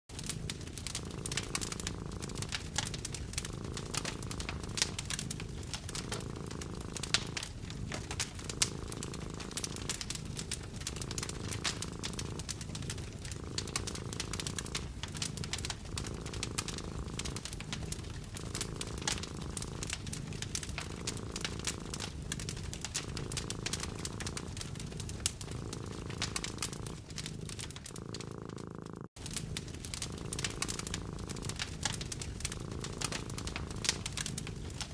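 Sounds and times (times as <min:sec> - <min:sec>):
cat purring: 0:00.1 - 0:34.9
wood fire crackling: 0:00.1 - 0:34.9.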